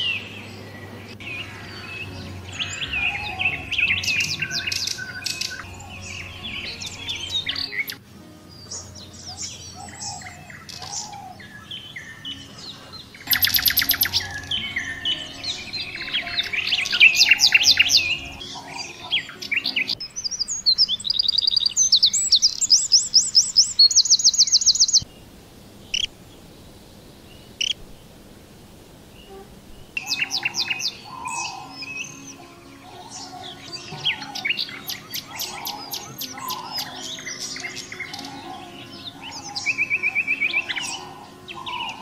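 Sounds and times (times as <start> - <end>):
songbirds chirping and trilling: 0.0 - 42.0.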